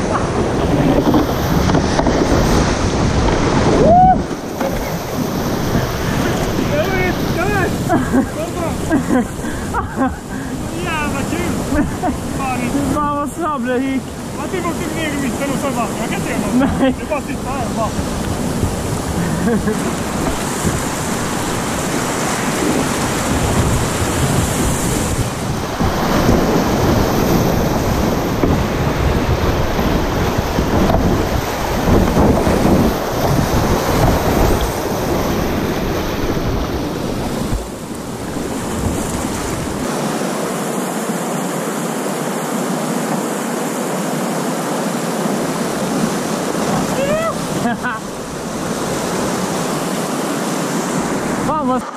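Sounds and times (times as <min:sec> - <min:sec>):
wind buffeting microphone: 0:00.0 - 0:40.8, 0:44.7 - 0:51.9
whitewater rushing and splashing: 0:00.0 - 0:51.9.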